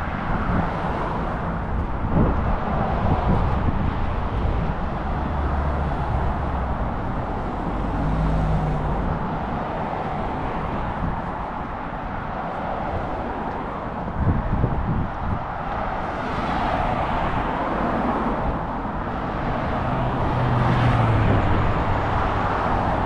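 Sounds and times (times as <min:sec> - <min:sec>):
cars passing close by: 0:00.0 - 0:23.0.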